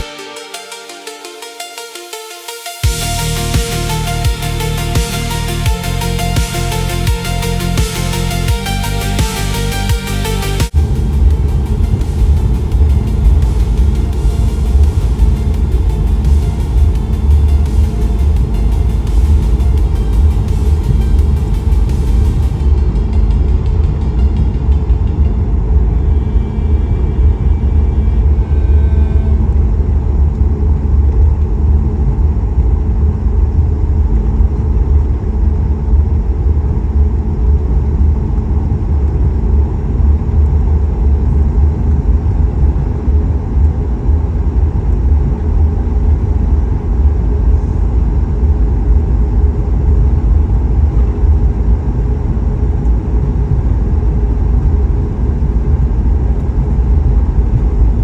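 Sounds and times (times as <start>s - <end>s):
airplane cabin engine rumble: 2.8s - 58.0s.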